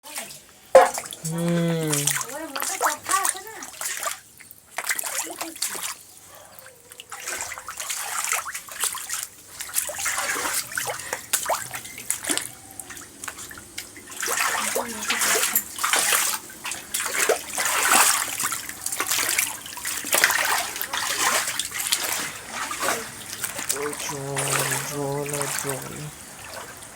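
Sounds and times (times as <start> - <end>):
floodwater rushing and splashing: 0.2 - 26.9.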